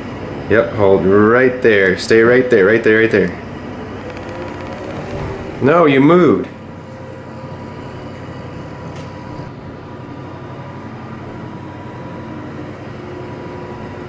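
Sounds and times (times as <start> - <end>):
mechanical hum with high whine: 0.0 - 14.0.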